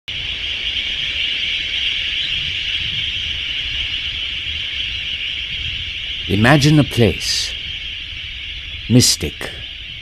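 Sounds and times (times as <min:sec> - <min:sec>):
insects chorus: 0:00.1 - 0:10.0.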